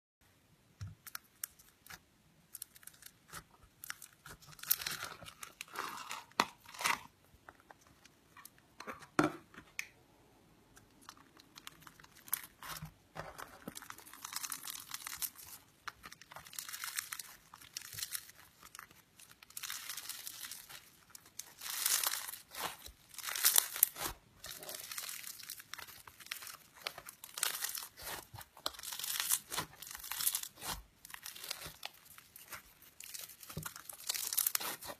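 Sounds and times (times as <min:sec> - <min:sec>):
crunchy slime beads crackling: 0:01.0 - 0:07.1, 0:11.0 - 0:34.9.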